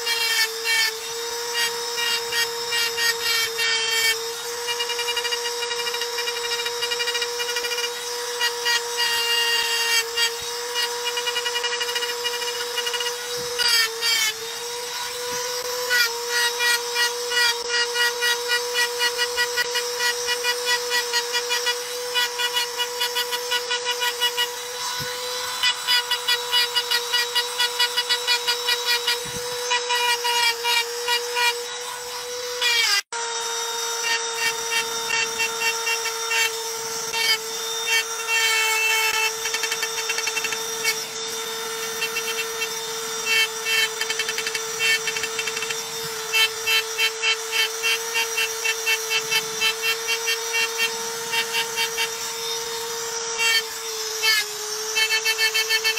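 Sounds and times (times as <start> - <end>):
engraving pen whining: 0.0 - 55.9.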